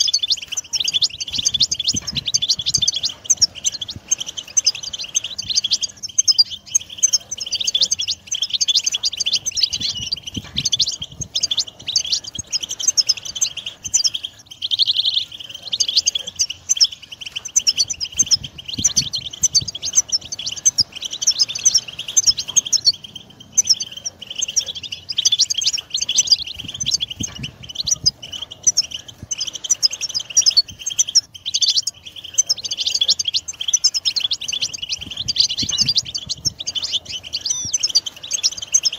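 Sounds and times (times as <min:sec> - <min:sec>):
goldfinches twittering: 0:00.0 - 0:38.9.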